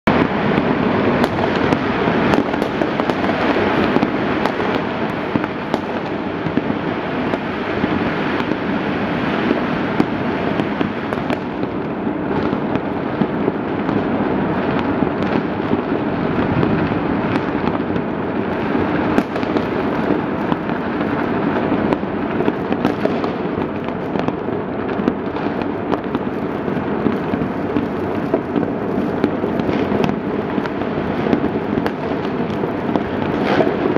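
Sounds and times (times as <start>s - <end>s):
fireworks crackling: 0.0s - 33.9s
firecracker pops: 0.1s - 8.7s, 9.4s - 18.1s, 19.1s - 33.9s.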